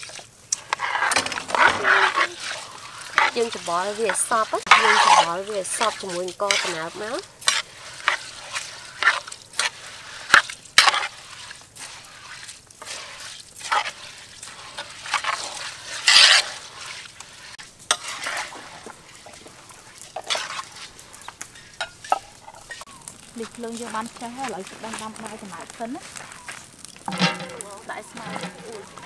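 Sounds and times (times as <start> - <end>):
hand squishing wet rice: 1.9 - 29.0.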